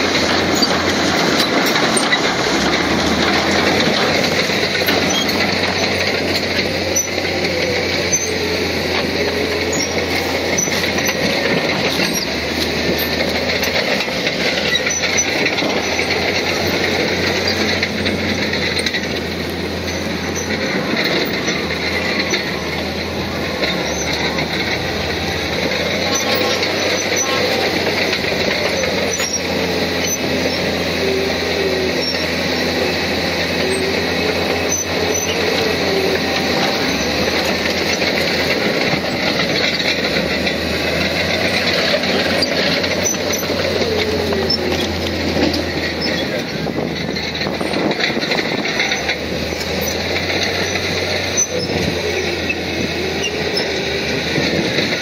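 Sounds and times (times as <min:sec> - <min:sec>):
bulldozer engine and tracks: 0:00.0 - 0:55.0.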